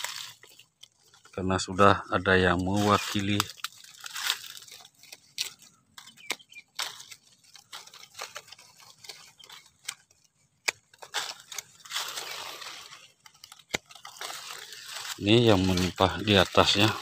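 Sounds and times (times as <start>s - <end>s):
dry leaves and twigs rustling: 0.0s - 17.0s.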